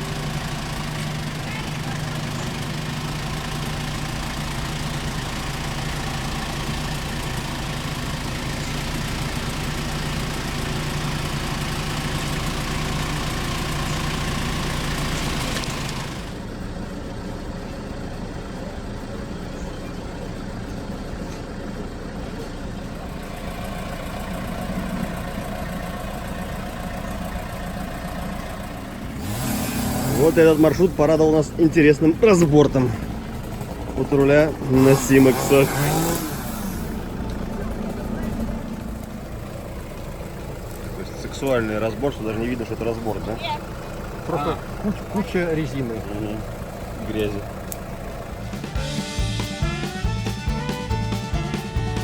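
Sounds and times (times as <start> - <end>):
off-road vehicle engine running: 0.0 - 52.0.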